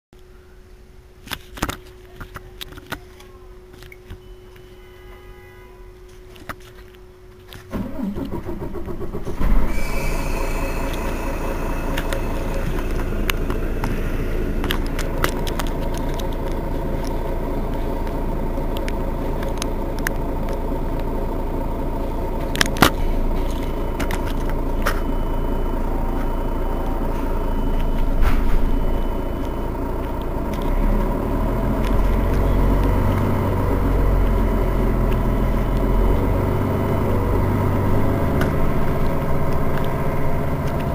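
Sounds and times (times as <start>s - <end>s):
diesel engine idling: 6.0s - 40.9s.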